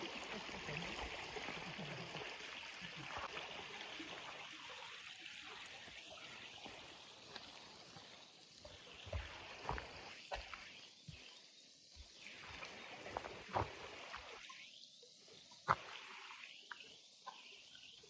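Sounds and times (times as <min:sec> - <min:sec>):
forest stream rushing: 0:00.0 - 0:11.0, 0:12.0 - 0:14.8, 0:15.7 - 0:16.9.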